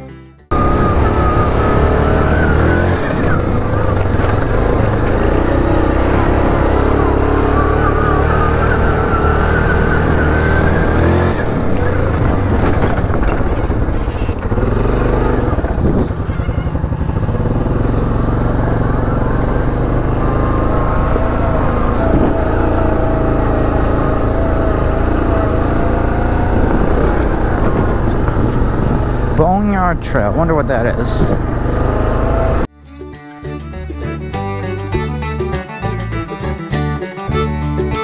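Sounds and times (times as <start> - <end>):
atv engine running: 0.5 - 32.7.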